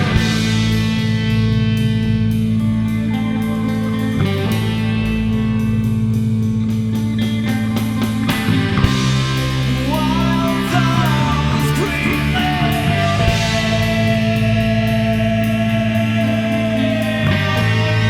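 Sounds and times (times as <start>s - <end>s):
bending lead guitar melody: 0.0s - 18.0s
rock band playing: 0.0s - 18.0s.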